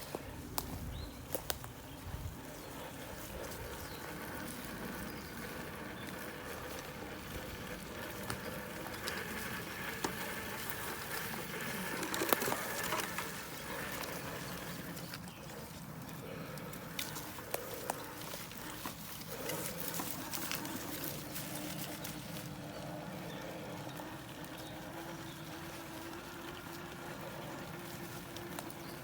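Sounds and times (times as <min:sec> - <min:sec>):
electric motor and gearbox whining: 0:00.0 - 0:29.0.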